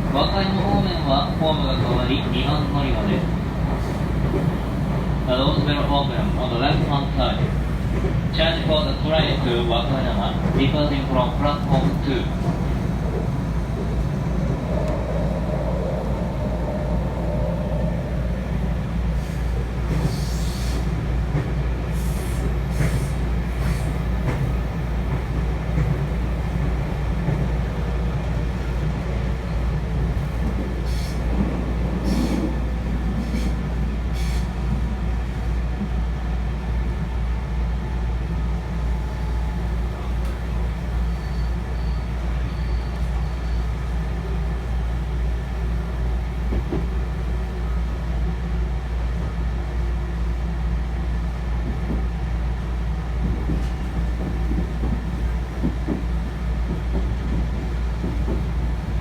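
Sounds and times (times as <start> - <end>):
train wheels rumbling: 0.0 - 48.1, 51.0 - 59.0.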